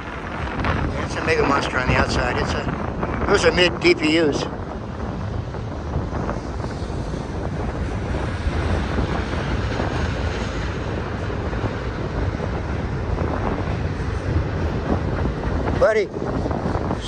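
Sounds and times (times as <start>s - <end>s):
freight train rumbling past: 0.0s - 17.0s
wind buffeting microphone: 0.0s - 17.0s.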